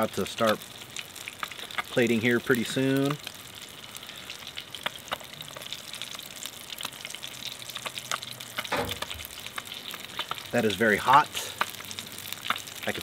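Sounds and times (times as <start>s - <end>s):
oil popping and crackling: 0.0s - 13.0s
oil sizzling in a pan: 0.0s - 13.0s.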